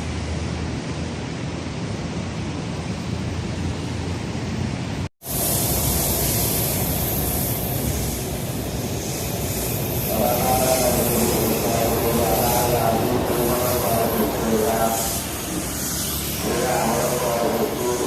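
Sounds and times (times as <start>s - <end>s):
electric train rushing: 0.0s - 18.0s.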